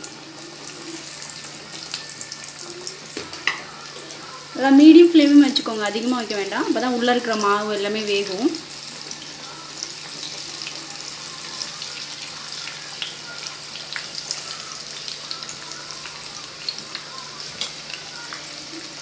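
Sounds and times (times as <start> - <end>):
deep-frying sizzle: 0.0 - 19.0.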